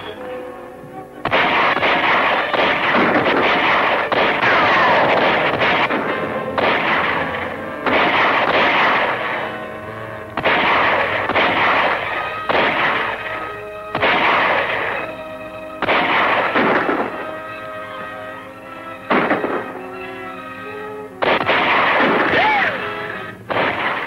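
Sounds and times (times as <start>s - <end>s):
orchestral film score: 0.0s - 24.0s
gunshots: 1.2s - 18.1s, 19.0s - 20.0s, 21.2s - 24.0s.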